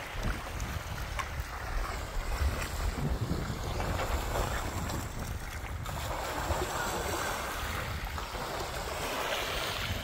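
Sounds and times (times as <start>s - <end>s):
small waves washing on sand: 0.0s - 10.0s
wind buffeting microphone: 0.0s - 10.0s.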